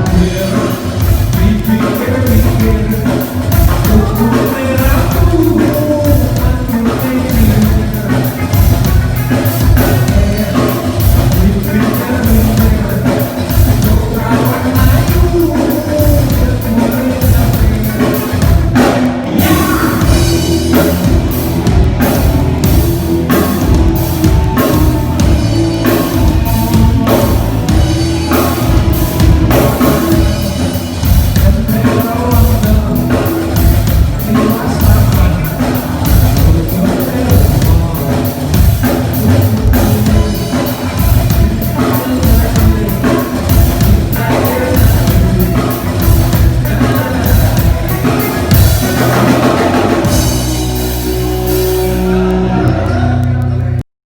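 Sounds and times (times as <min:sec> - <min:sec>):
drum kit fast beat: 0:00.0 - 0:52.5
live rock band playing: 0:00.0 - 0:53.8
person singing: 0:00.0 - 0:53.8.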